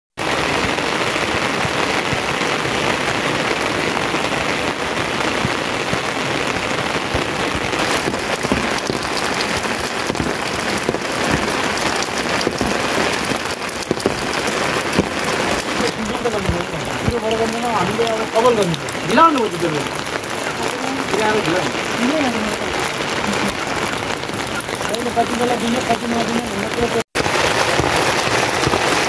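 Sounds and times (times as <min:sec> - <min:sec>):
rain falling: 0:00.2 - 0:29.0.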